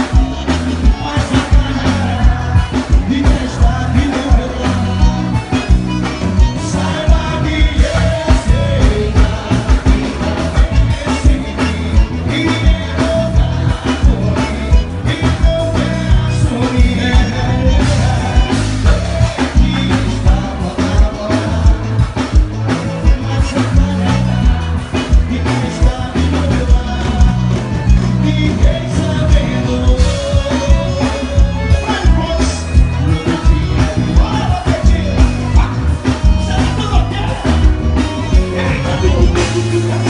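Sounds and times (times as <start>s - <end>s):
driving drum beat: 0.0s - 40.0s
live band music: 0.0s - 40.0s
man singing: 0.0s - 40.0s.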